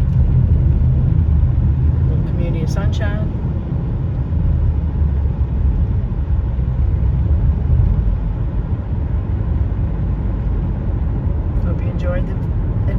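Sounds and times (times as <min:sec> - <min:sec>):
road and engine rumble: 0:00.0 - 0:12.9.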